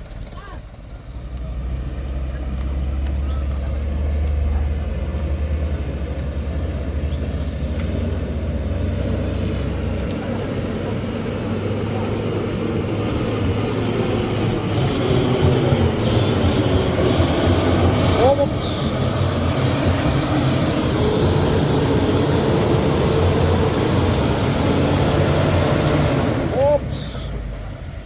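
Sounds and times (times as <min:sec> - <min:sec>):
grinding road noise: 0:00.0 - 0:28.0
heavy vehicle engine droning: 0:00.0 - 0:28.0.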